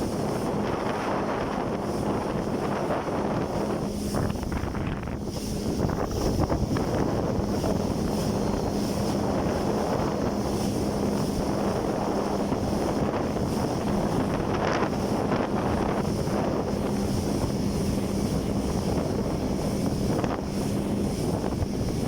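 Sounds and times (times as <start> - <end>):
jet ski engine running: 0.0 - 22.0
wind buffeting microphone: 0.0 - 22.0.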